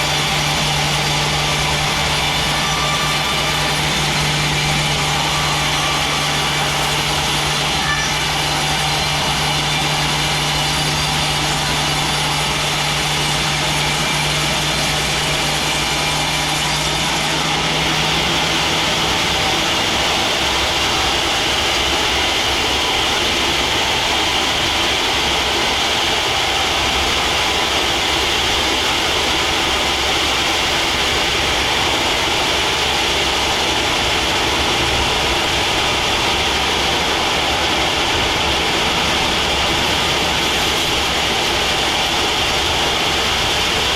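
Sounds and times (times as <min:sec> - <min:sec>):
sawmill saw cutting log: 0:00.0 - 0:43.9.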